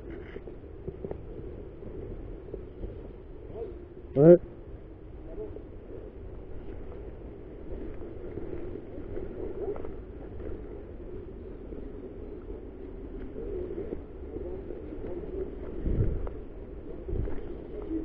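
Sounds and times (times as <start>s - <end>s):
wind and handling rumble: 0.0s - 18.0s.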